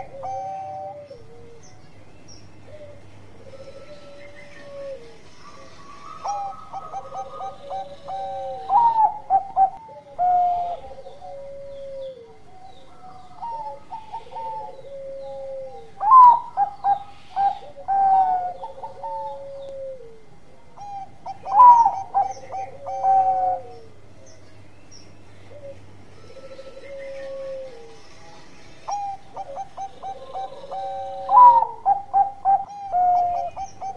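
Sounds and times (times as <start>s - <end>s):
dove cooing song: 0.0s - 33.9s.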